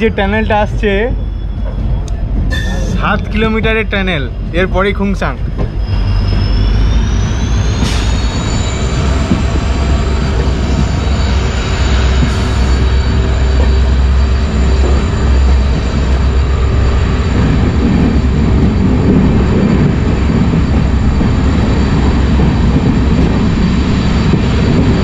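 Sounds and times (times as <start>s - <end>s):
passenger train running at speed: 0.0s - 25.0s.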